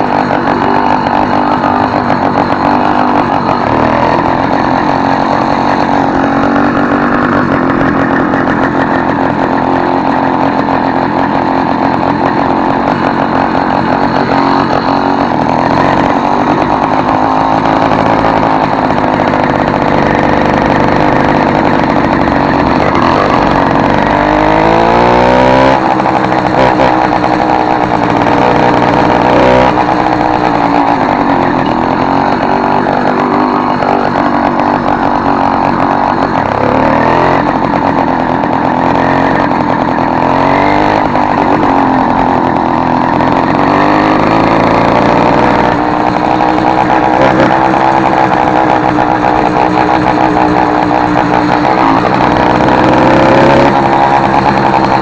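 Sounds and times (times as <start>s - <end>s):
motorized bicycle engine revving: 0.0s - 55.0s.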